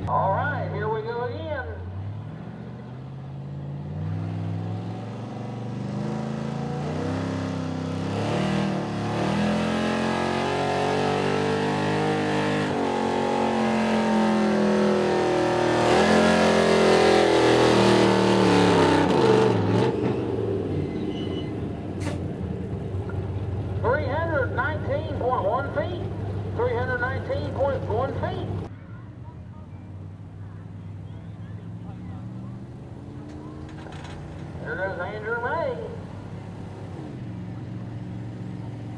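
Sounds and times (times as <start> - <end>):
truck engine at full throttle: 1.7 - 28.7, 29.9 - 38.9.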